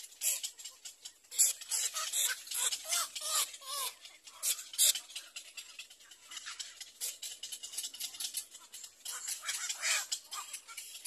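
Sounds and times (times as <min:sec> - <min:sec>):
nestlings rasping chatter: 0:00.0 - 0:11.0.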